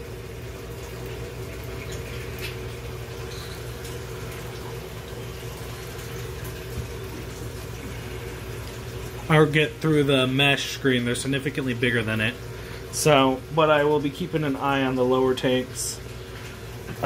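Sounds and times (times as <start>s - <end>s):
aquarium pump hum: 0.0s - 17.0s
water running: 0.0s - 17.0s.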